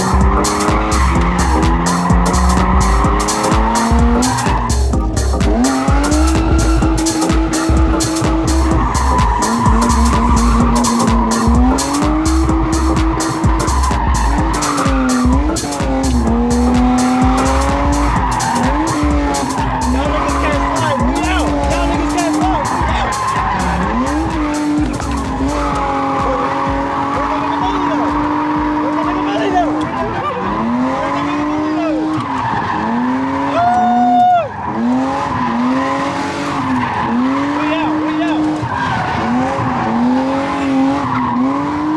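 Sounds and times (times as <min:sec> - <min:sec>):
car engines revving: 0:00.0 - 0:41.9
music with heavy bass beat: 0:00.0 - 0:41.9
tyres squealing: 0:00.0 - 0:41.9.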